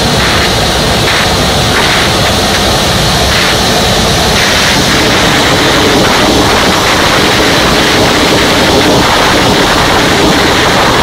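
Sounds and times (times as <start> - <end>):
propeller engine drone: 0.0 - 11.0
rushing air noise: 0.0 - 11.0.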